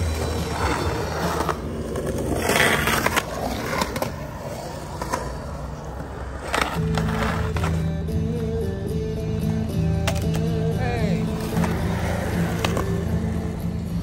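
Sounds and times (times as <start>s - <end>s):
skateboard wheels rolling on asphalt: 0.0s - 14.0s.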